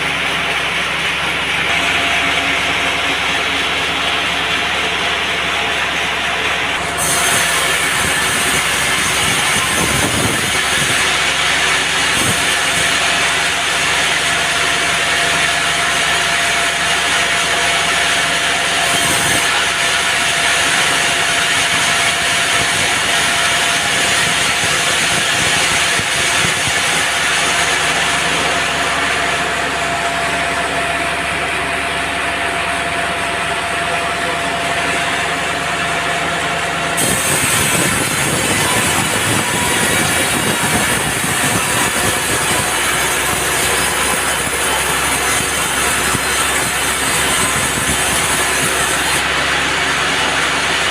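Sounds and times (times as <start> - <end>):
band saw cutting log: 0.0 - 50.9.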